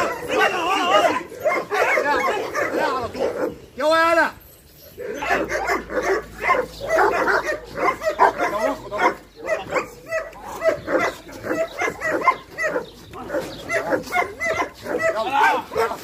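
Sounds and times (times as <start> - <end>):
dogs yipping and whining: 0.0 - 16.0.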